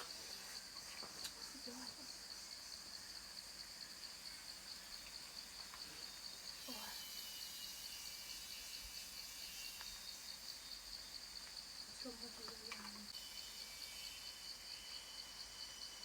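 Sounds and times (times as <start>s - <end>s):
cicadas calling: 0.0s - 16.0s.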